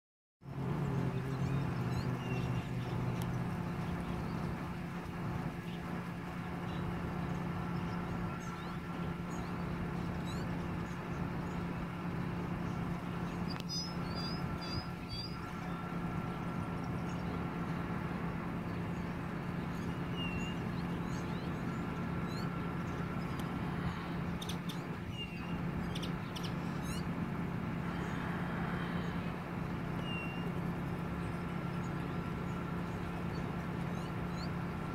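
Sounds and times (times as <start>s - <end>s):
distant industrial machinery hum: 0.4s - 34.9s
birds chirping: 0.5s - 34.9s.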